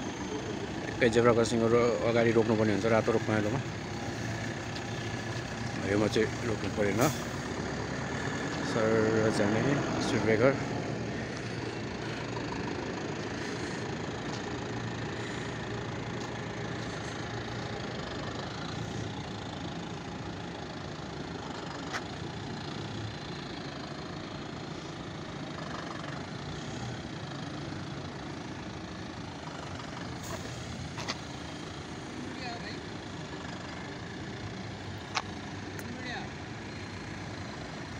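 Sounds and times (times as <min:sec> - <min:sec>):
diesel bus engine driving away: 0:00.0 - 0:37.9.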